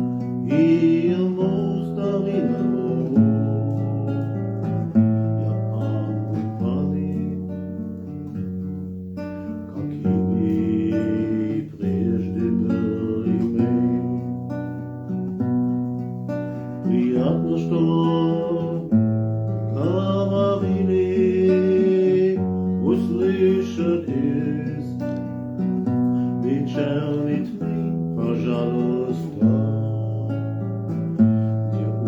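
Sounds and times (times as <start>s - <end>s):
man singing: 0.0s - 8.4s, 9.4s - 15.2s, 16.4s - 32.0s
acoustic guitar strumming: 0.0s - 32.0s.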